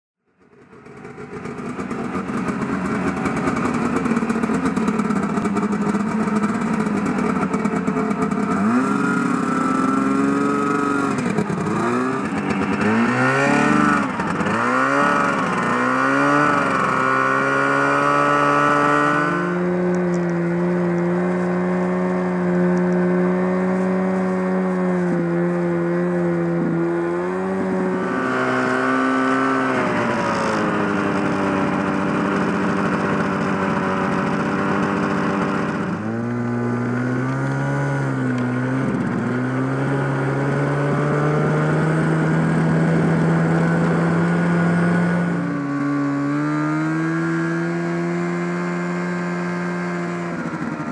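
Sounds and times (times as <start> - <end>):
snowmobile engine revving: 1.0 - 50.9.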